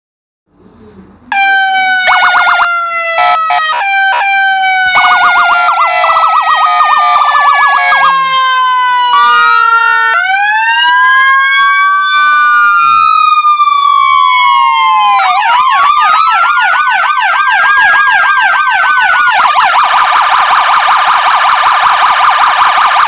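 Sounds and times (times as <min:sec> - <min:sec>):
rising siren wail: 0:01.2 - 0:23.0
siren winding down: 0:01.2 - 0:23.0
short sharp siren blasts: 0:01.3 - 0:23.0
warbling siren yelp: 0:01.3 - 0:23.0.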